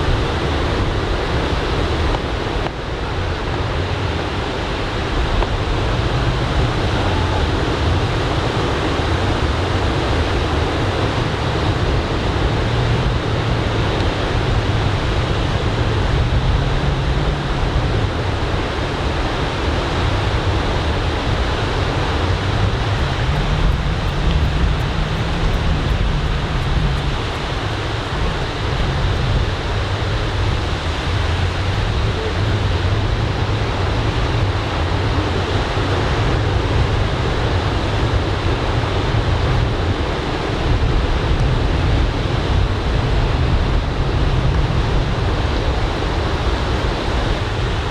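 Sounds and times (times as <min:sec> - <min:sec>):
ocean surf washing onto beach: 0:00.0 - 0:47.9
wind rumbling on microphone: 0:00.0 - 0:47.9.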